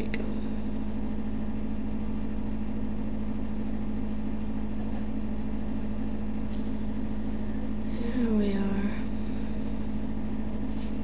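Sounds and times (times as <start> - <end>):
droning hum: 0.0 - 11.0
pencil scratching on paper: 0.2 - 11.0.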